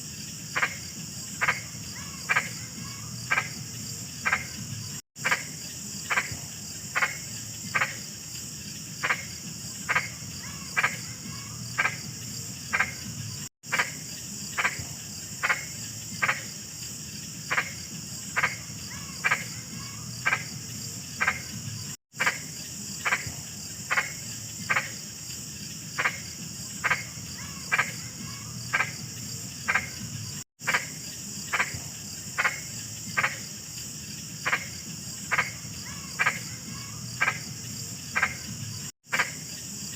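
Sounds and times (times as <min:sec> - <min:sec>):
frogs croaking: 0:00.0 - 0:39.9
insects chirring: 0:00.0 - 0:39.9.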